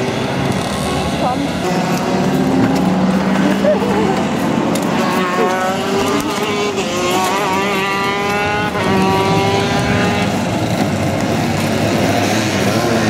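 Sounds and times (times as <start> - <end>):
racing kart engines at high revs: 0.0 - 13.0.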